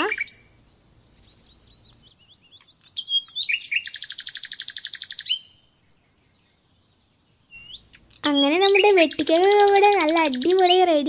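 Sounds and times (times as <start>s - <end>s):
small bird chirping and trilling: 0.0s - 11.0s.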